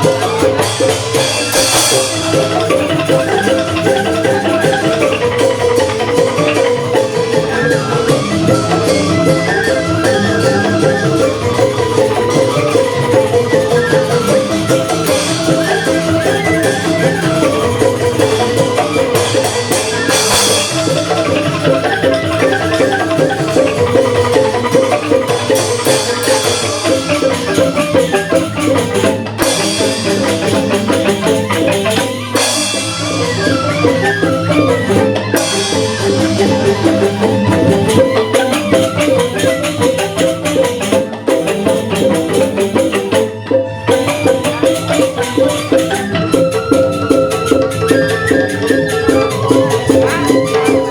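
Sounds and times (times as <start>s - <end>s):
bamboo xylophones interlocking: 0.0s - 50.9s
high hissing percussion: 0.0s - 50.9s.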